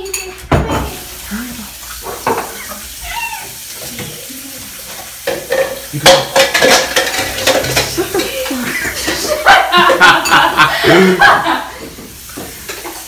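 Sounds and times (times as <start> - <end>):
dishes and cutlery clattering: 0.0 - 1.1, 1.9 - 13.0.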